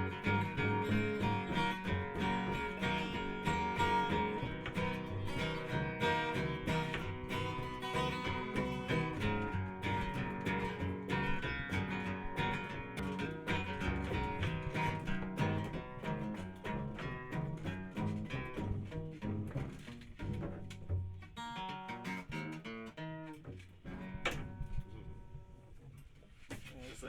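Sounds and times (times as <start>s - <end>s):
guitar strummed and picked: 0.0s - 25.9s.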